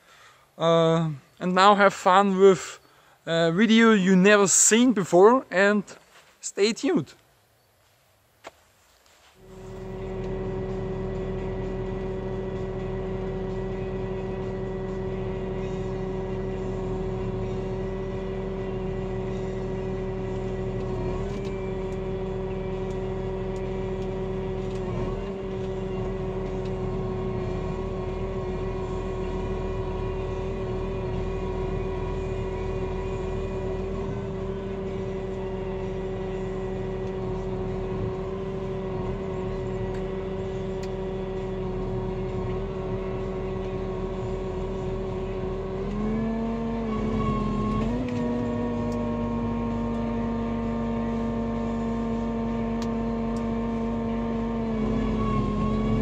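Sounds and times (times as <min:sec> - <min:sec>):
steady whine: 0:00.0 - 0:56.0
tractor engine running under load: 0:09.4 - 0:56.0.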